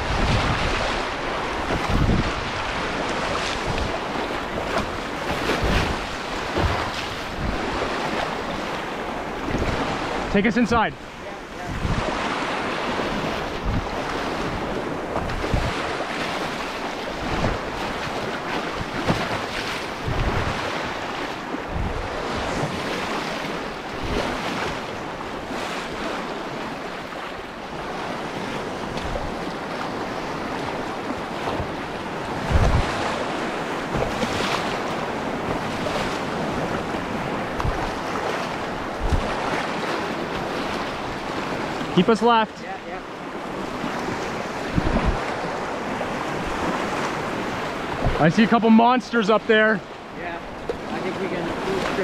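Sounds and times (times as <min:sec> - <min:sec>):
wind buffeting microphone: 0:00.0 - 0:42.0, 0:43.0 - 0:48.3
whitewater river rushing: 0:00.0 - 0:52.0.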